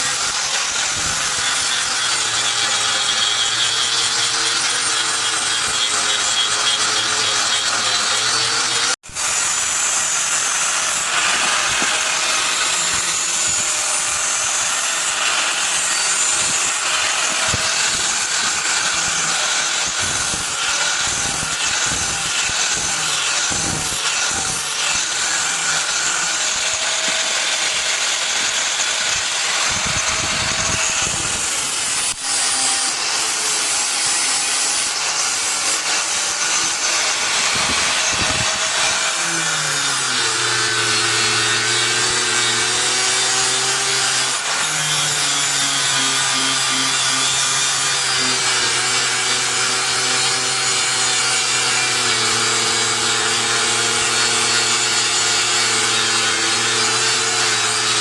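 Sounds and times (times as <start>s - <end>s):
power tool grinding steel: 0.0s - 58.0s.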